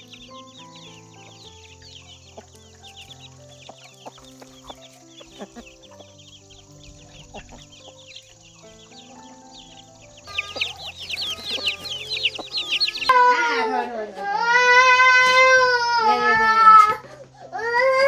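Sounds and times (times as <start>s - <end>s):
chicks cheeping: 0.0s - 13.9s, 14.5s - 15.6s
poultry clucking: 0.0s - 14.0s, 15.0s - 15.5s
soft music with held notes: 0.0s - 18.0s.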